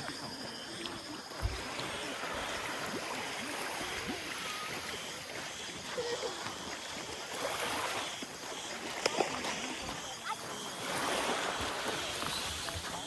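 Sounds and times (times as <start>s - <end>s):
small waves lapping on sandy shore: 0.0s - 13.0s.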